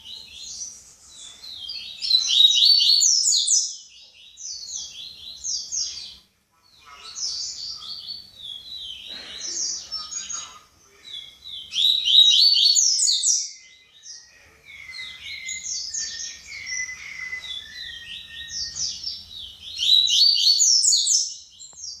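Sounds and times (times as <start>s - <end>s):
bird singing chattering phrases: 0.0s - 22.0s.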